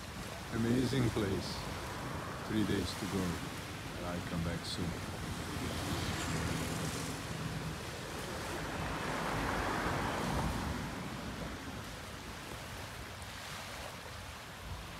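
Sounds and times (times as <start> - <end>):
sea waves washing onto beach: 0.0 - 14.9.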